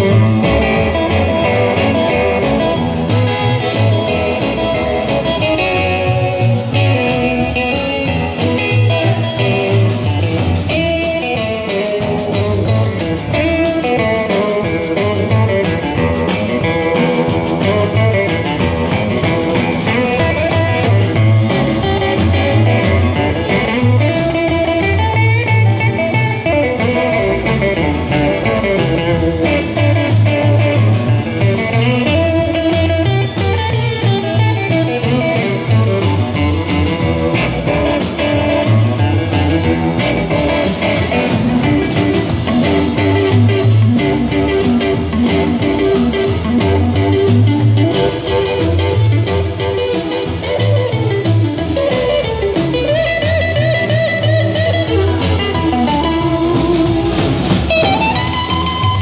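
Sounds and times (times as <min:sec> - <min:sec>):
blues band playing: 0:00.0 - 0:59.0
electric guitar lead: 0:00.0 - 0:59.0.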